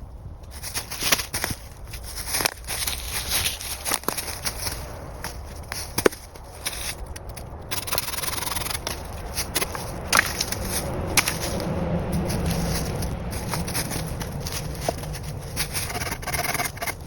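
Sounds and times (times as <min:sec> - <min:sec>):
wood rubbing and scraping: 0:00.4 - 0:17.0.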